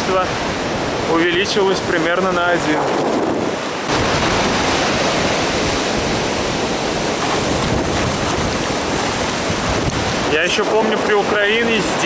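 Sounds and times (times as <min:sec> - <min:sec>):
sea surf washing: 0:00.0 - 0:12.0
wind buffeting microphone: 0:00.0 - 0:12.0.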